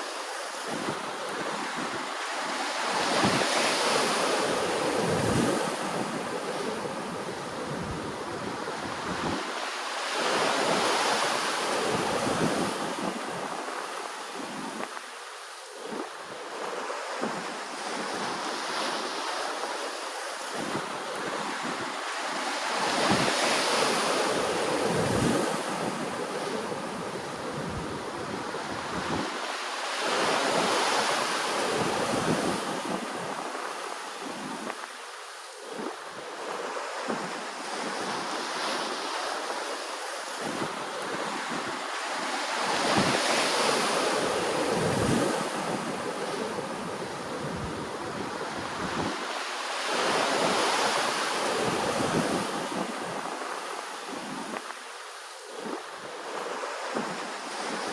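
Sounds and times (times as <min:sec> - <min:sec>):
ocean waves washing ashore: 0:00.0 - 0:57.9.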